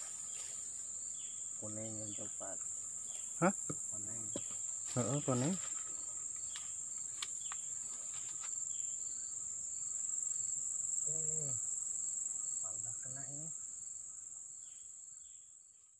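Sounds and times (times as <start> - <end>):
high-pitched insect drone: 0.0 - 15.9
insect chirping in short pulses: 0.0 - 15.9.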